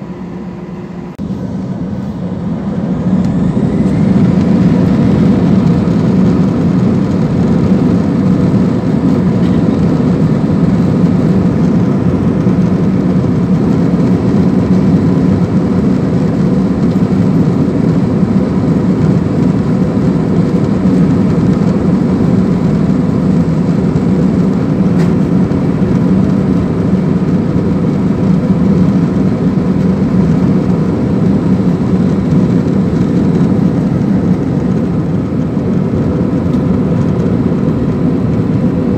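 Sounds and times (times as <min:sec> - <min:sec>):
jet engine cabin roar: 0:00.0 - 0:38.9.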